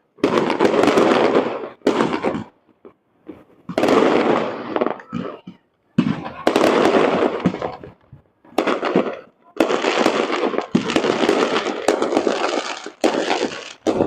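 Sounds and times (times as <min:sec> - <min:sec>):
fireworks crackling: 0:00.0 - 0:14.0
firework shells bursting: 0:00.2 - 0:14.0.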